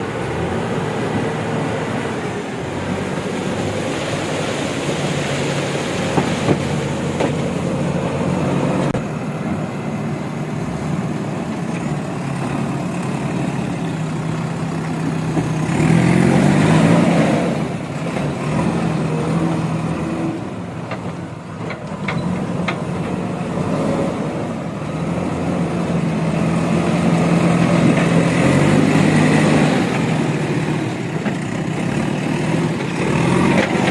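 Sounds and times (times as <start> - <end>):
diesel engine revving: 0.0 - 33.9.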